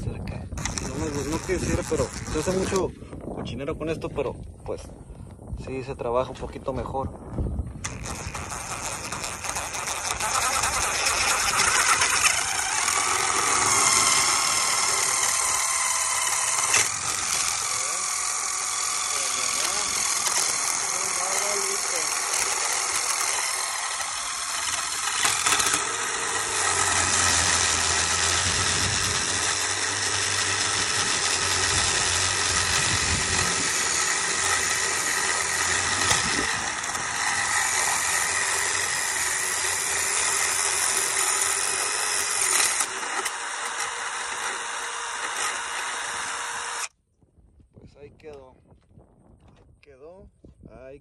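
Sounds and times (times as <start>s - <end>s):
cordless drill cutting metal: 0.5s - 3.0s, 7.8s - 47.0s.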